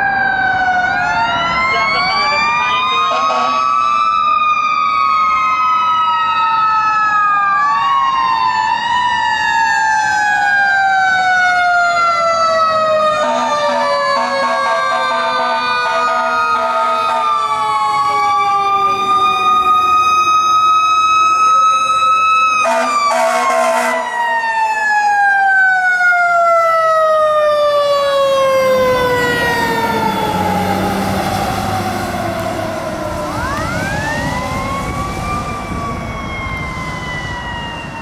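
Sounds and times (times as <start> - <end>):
fire engine sirens wailing: 0.0 - 38.0.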